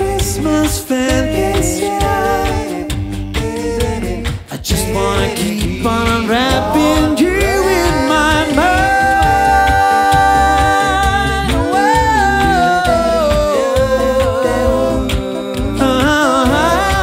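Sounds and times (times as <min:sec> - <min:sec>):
backing vocal harmonies: 0:00.0 - 0:17.0
beatboxed percussion: 0:00.0 - 0:17.0
lead voice singing high note: 0:00.0 - 0:17.0
sung bass line: 0:00.0 - 0:17.0.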